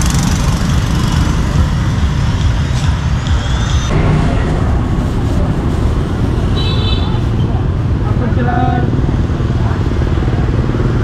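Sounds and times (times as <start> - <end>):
motorbike and car engines passing: 0.0 - 11.0.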